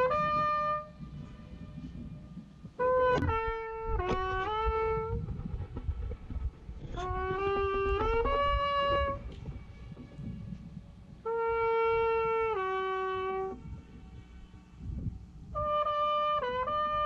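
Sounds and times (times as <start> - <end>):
trumpet playing held notes: 0.0 - 17.0
wind rumble on microphone: 0.0 - 17.0.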